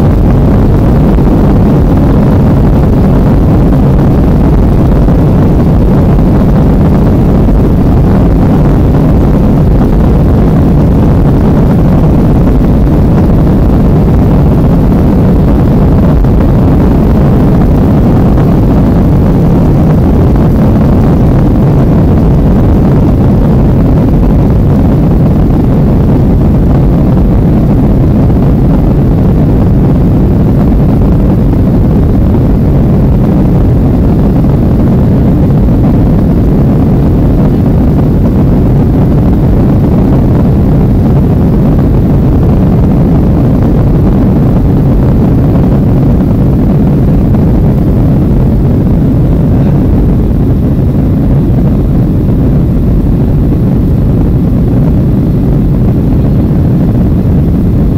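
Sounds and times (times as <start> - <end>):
jet engine rumble in cabin: 0.0 - 57.9.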